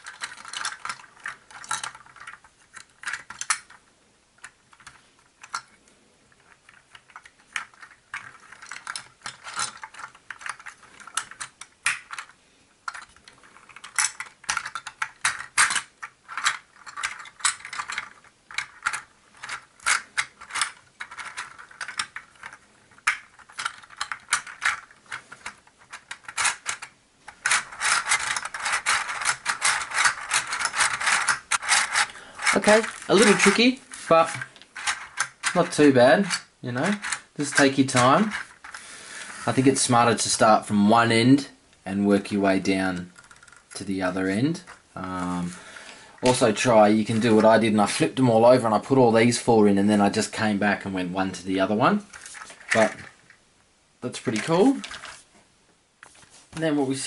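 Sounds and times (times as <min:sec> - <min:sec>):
plastic parts clicking and rattling: 0:00.0 - 0:49.4, 0:50.0 - 0:53.4, 0:54.0 - 0:55.3.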